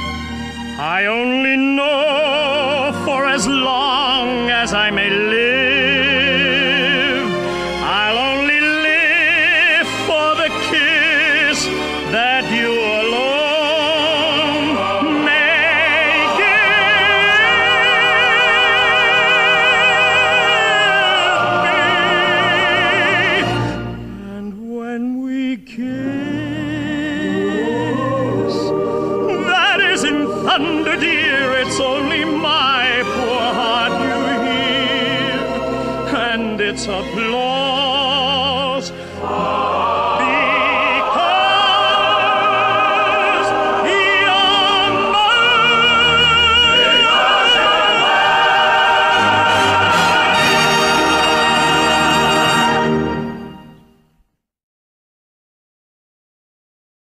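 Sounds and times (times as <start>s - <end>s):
orchestral accompaniment: 0.0s - 24.3s, 25.9s - 54.1s
operatic singing with vibrato: 0.0s - 53.8s.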